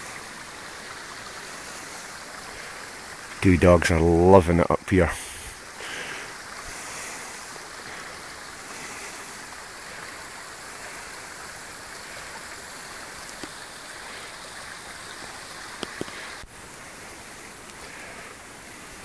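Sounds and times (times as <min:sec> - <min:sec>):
stream rushing over stones: 0:00.0 - 0:19.0.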